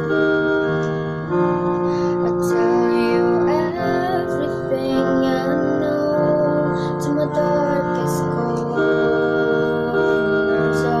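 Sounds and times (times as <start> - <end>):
electric keyboard playing chords: 0.0 - 11.0
woman singing: 1.9 - 11.0.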